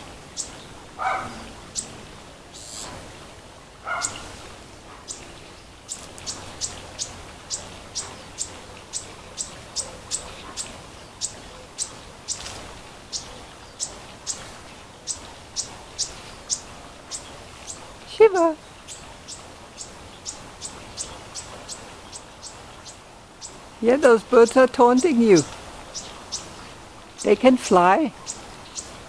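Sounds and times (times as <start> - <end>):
small bird chirping: 0.4 - 2.0, 3.9 - 4.3, 5.1 - 23.6, 25.4 - 27.4, 28.2 - 29.0.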